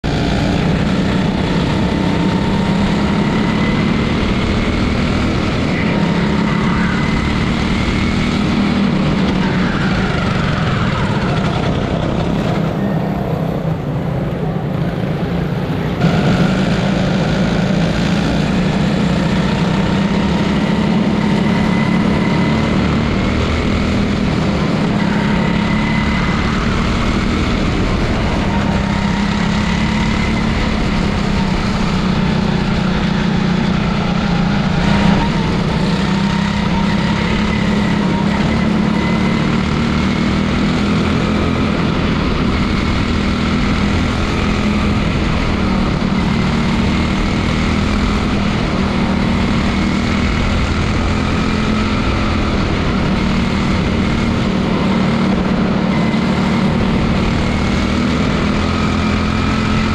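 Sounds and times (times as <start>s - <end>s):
other cars' engines: 0.0s - 59.9s
small race car engine running: 0.0s - 59.9s.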